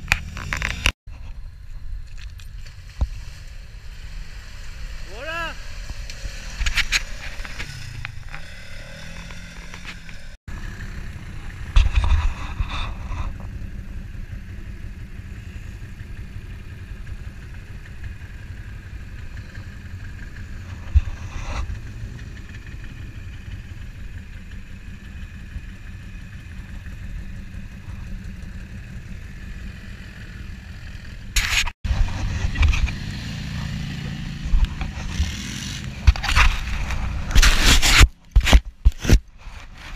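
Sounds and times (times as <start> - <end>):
off-road vehicle engines rumbling: 0.0 - 39.9.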